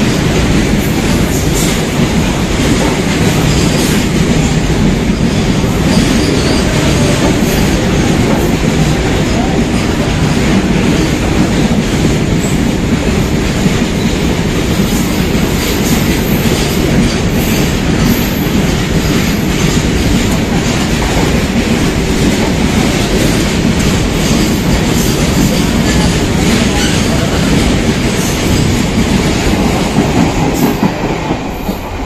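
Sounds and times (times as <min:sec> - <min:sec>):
freight train wheels rumbling: 0:00.0 - 0:32.0
wheels clickety-clack on rail joints: 0:00.0 - 0:32.0.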